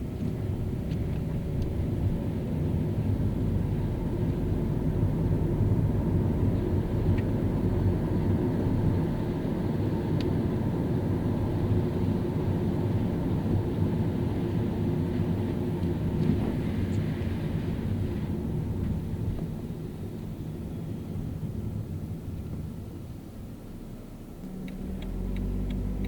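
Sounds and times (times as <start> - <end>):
car engine drone: 0.0 - 26.0
tyre noise on wet road: 0.0 - 26.0.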